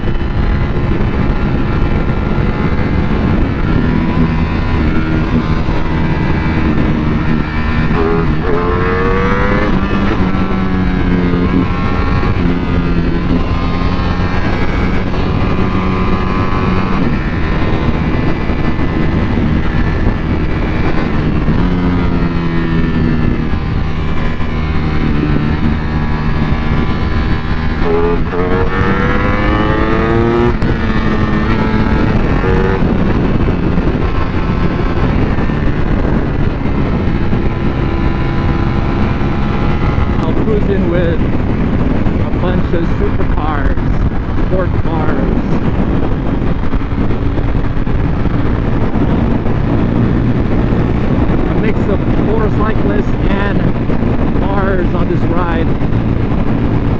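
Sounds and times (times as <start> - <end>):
motorcycle engine revving: 0.0 - 56.9
wind and road rush: 0.0 - 56.9.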